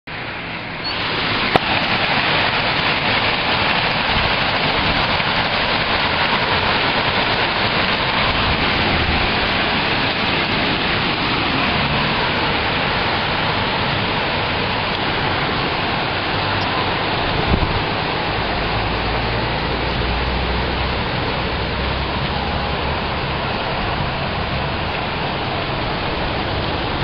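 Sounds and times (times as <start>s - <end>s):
heavy rain hiss: 0.1s - 27.0s.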